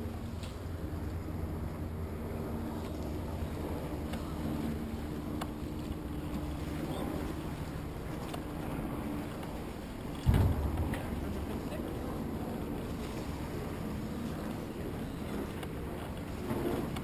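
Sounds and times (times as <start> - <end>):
steady low hum: 0.0 - 17.0
wind rumbling on microphone: 0.0 - 17.0.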